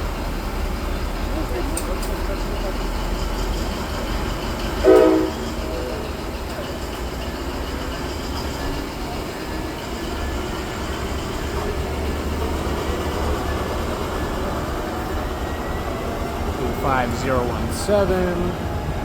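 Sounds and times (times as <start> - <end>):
train wheels on rail: 0.0 - 19.0.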